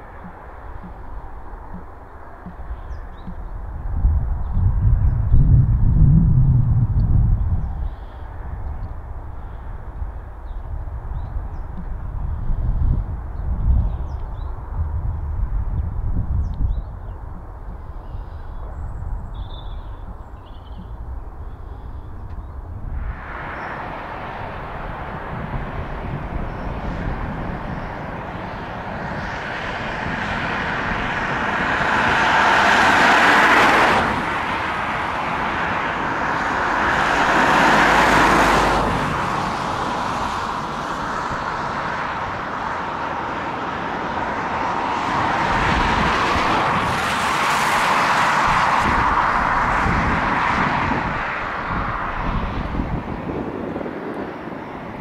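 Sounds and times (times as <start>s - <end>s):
distant engine noise: 0.0s - 55.0s.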